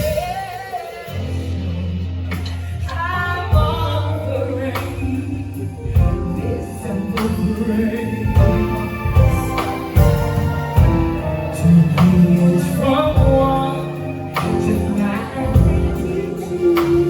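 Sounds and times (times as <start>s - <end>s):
band playing: 0.0s - 17.0s
person singing: 0.0s - 17.0s.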